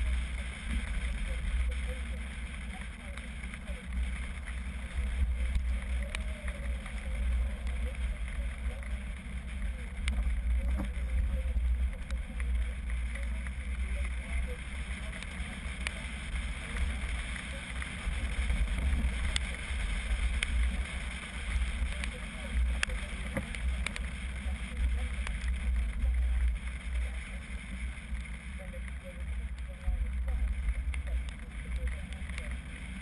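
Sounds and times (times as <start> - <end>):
faint clicks: 0.0 - 33.0
road noise: 0.0 - 33.0.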